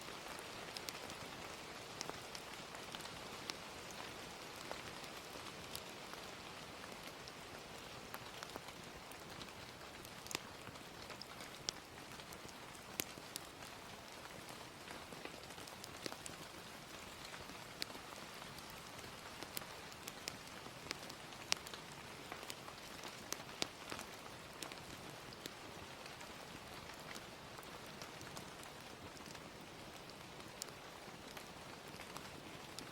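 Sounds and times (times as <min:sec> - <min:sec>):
gentle rain: 0:00.0 - 0:32.9
wood fire crackling: 0:00.1 - 0:32.9.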